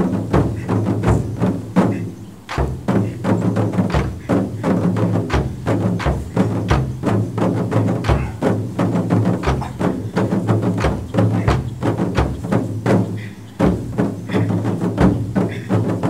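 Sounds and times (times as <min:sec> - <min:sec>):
percussive backing music: 0:00.0 - 0:16.0.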